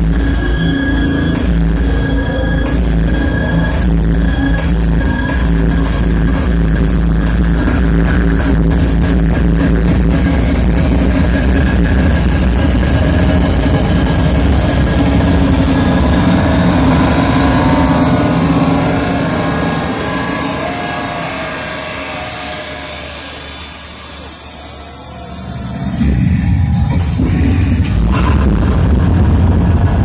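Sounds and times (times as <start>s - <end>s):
electronic music: 0.0s - 30.0s
rising whine: 0.0s - 30.0s.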